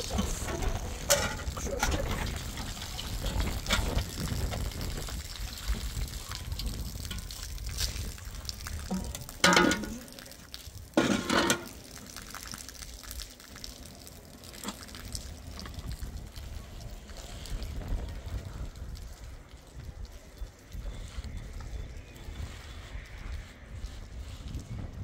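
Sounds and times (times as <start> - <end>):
water gushes: 0.0 - 25.0
water running and splashing: 0.0 - 25.0.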